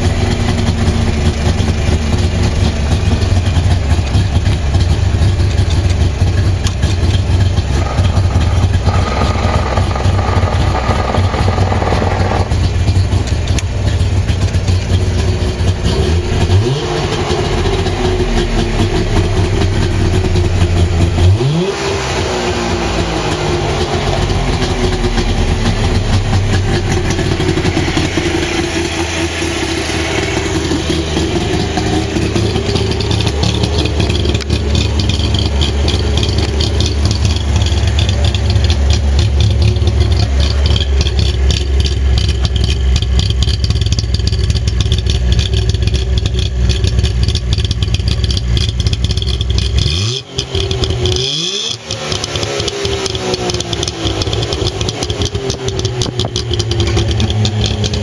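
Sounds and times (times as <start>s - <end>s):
two-stroke engine idling: 0.0s - 58.0s.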